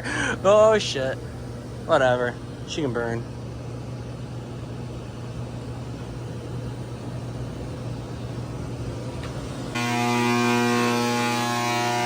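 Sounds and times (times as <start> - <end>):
electrical lamp buzz: 0.0 - 12.0.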